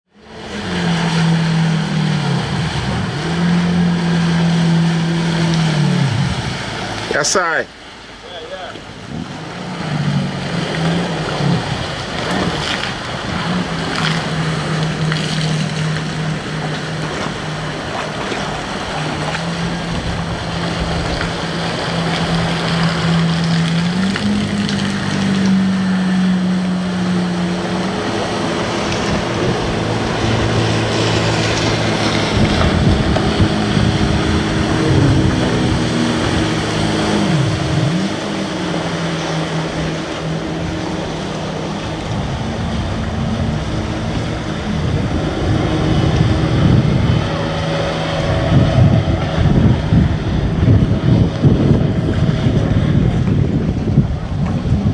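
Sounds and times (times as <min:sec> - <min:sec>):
jet ski engine running: 0:00.1 - 0:54.9.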